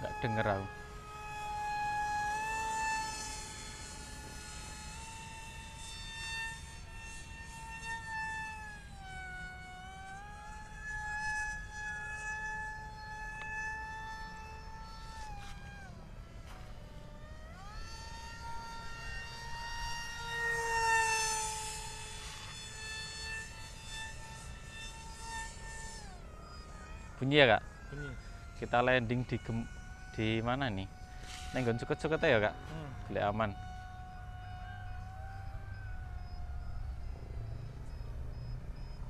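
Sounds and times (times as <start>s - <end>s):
electric model jet motor whining: 0.0s - 39.0s.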